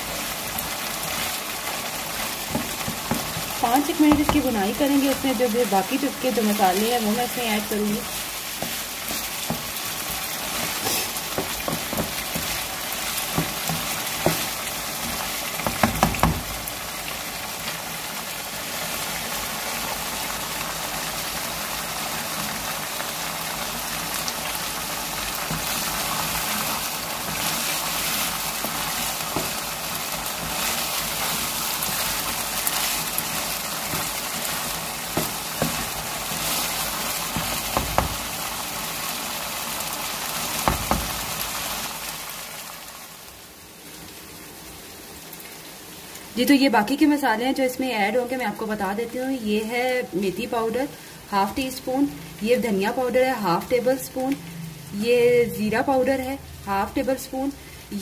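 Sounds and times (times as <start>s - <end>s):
meat sizzling in a wok: 0.0s - 58.0s.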